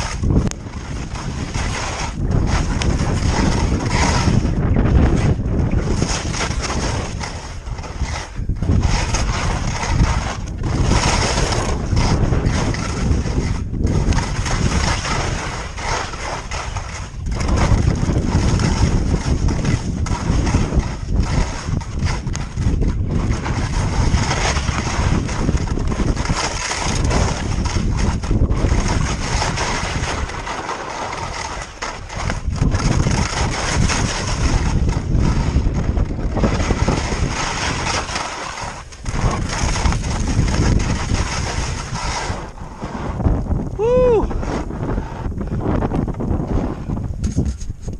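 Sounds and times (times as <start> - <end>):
skis scraping on snow: 0.0 - 47.9
wind on microphone: 0.0 - 47.9.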